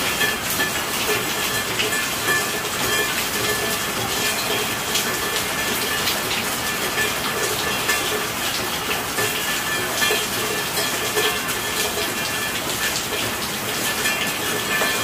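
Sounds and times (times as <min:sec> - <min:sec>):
heavy rain: 0:00.0 - 0:15.0
raindrops spattering: 0:00.0 - 0:15.0.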